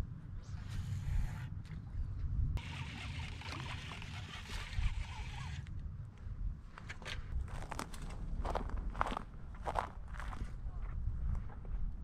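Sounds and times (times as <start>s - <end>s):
wind buffeting microphone: 0.4s - 12.0s.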